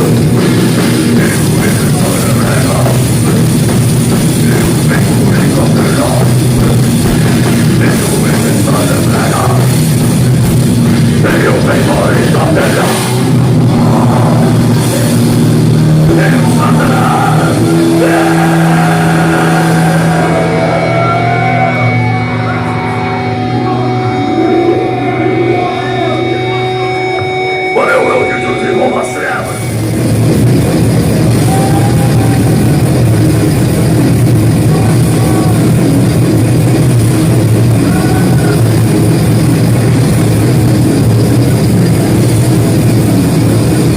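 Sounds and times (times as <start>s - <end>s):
heavy metal band playing live: 0.0s - 43.9s.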